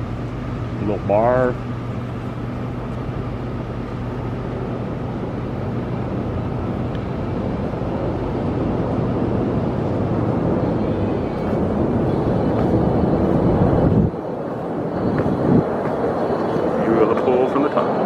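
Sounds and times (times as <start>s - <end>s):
low machine hum: 0.0s - 18.0s
rushing background noise: 0.0s - 18.0s.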